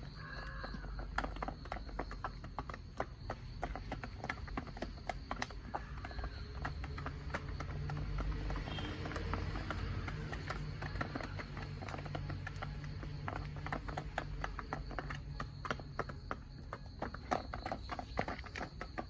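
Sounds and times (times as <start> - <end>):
chickens pecking at feed: 0.0 - 19.0.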